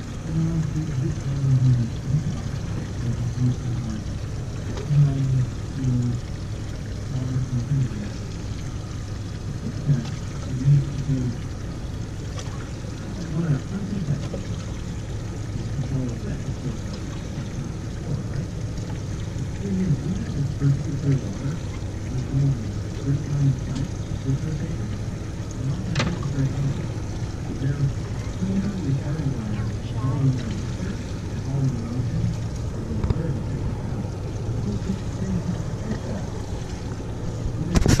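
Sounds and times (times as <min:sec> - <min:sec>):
low boat engine rumble: 0:00.0 - 0:38.0
outboard motors idling: 0:00.0 - 0:38.0
wash of sea noise: 0:00.0 - 0:38.0.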